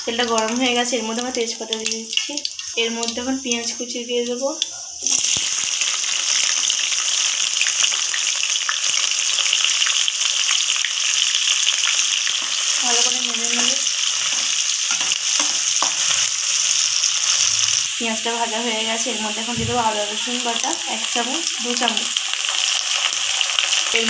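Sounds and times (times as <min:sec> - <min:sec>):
oil sizzling with onions frying: 0:00.0 - 0:24.0.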